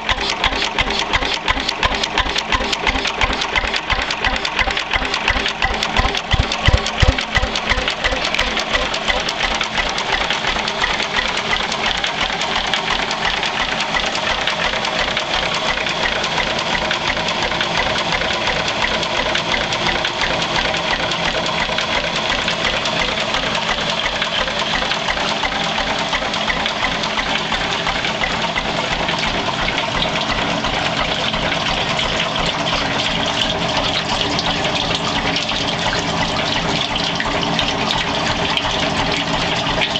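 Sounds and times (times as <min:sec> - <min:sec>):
engine knocks: 0:00.0 - 0:39.9
stationary engine running: 0:00.0 - 0:39.9.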